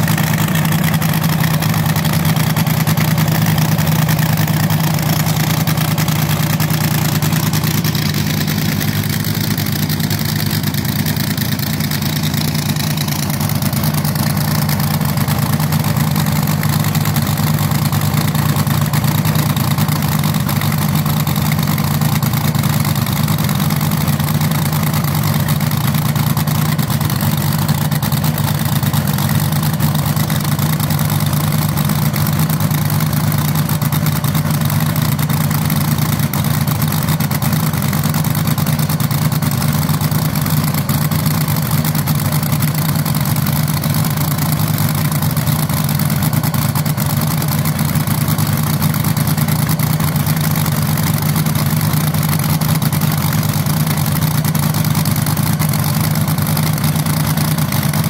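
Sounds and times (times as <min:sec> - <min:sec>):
dragster engine idling: 0:00.0 - 0:58.0.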